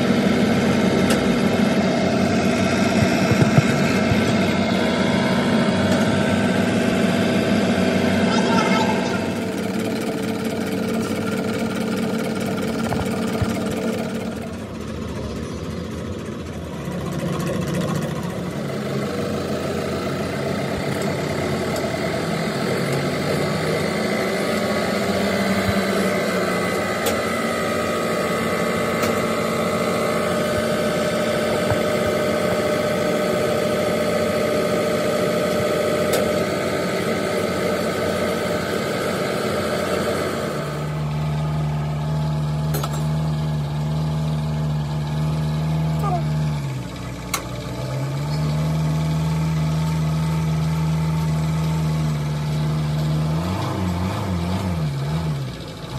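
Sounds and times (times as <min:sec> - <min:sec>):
pump test bench hum and whine: 0:00.0 - 0:15.6, 0:16.3 - 0:55.0.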